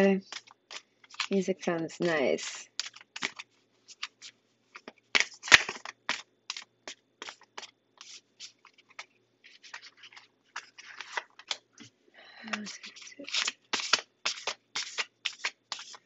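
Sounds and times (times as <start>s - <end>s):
cards being shuffled: 0.0s - 11.9s, 12.5s - 16.0s.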